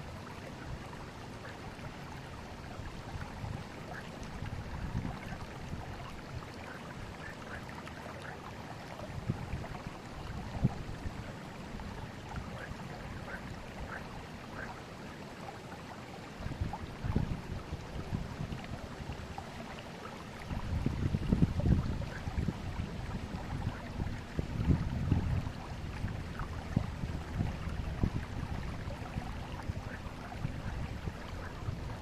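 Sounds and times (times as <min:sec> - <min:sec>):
low water surges: 0:00.0 - 0:32.0
river water rushing: 0:00.0 - 0:32.0
water gurgling and trickling: 0:00.0 - 0:32.0.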